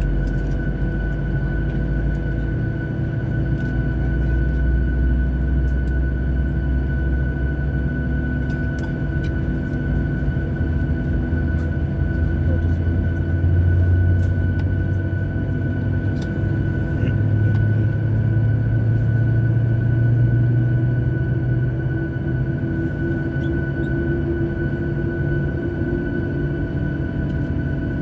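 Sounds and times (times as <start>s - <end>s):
high whine: 0.0s - 28.0s.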